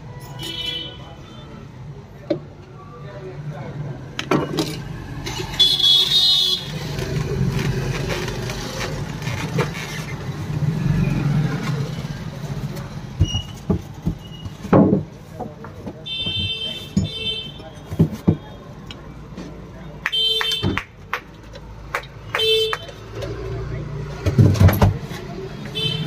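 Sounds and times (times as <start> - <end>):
street traffic engines: 0.0 - 26.0.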